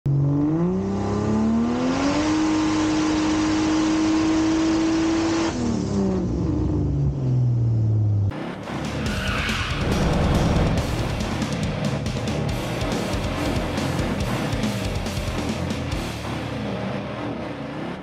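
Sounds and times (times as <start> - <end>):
car engine revving: 0.1 - 18.0.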